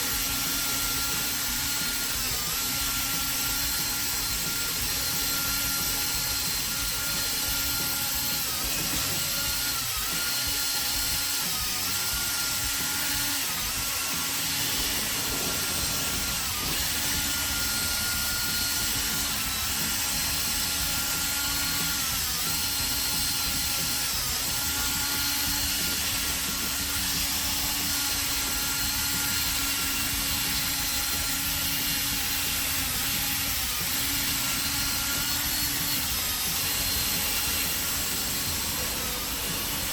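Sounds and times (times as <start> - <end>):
electric drill motor whine: 0.0 - 39.9.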